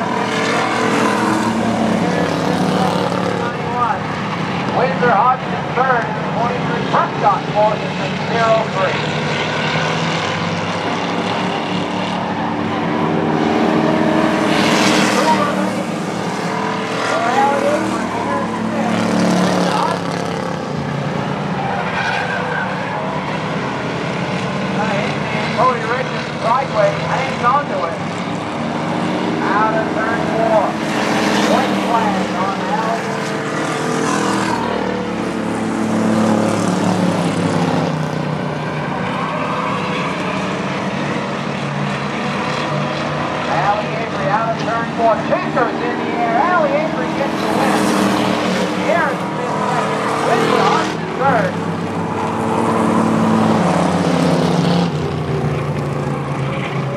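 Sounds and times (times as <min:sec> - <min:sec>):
race car engines at high revs: 0:00.0 - 0:56.9.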